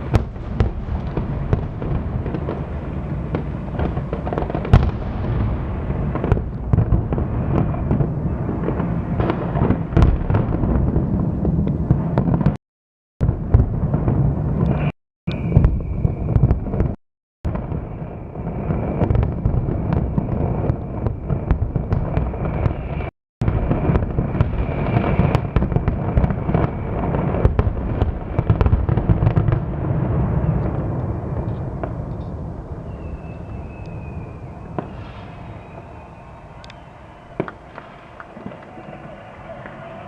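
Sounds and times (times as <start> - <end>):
fireworks bangs and crackling: 0.0 - 12.6, 13.2 - 40.0.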